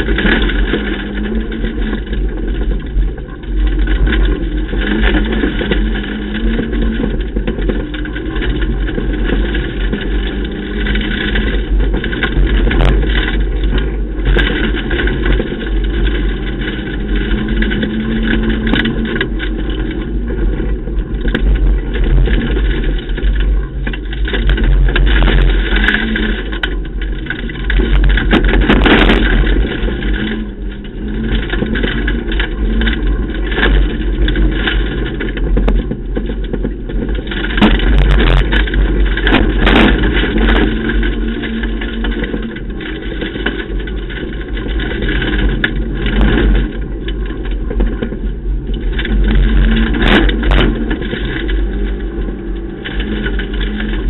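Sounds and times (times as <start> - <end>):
gravel road noise: 0.0 - 54.0
rally car engine revving: 0.0 - 54.0.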